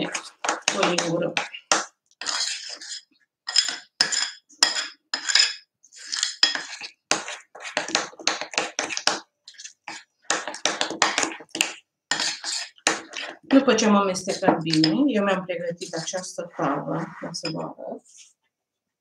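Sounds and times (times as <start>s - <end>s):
metal spoon stirring batter in glass bowl: 0.0s - 18.2s.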